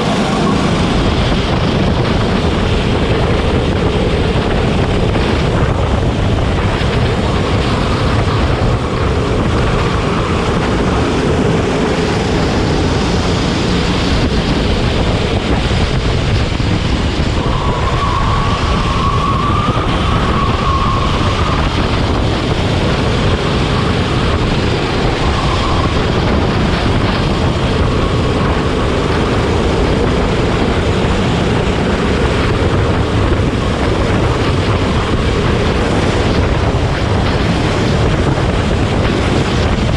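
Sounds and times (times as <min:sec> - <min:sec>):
go-kart engine racing: 0:00.0 - 0:39.9
wind rush on microphone: 0:00.0 - 0:39.9.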